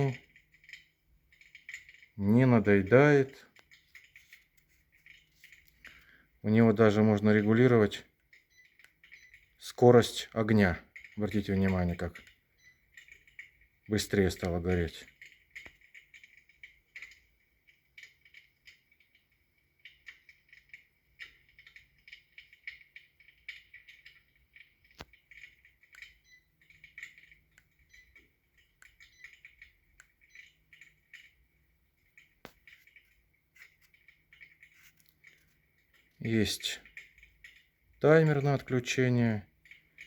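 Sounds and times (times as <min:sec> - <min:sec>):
electric fireplace crackling and clicking: 0:00.0 - 0:40.0.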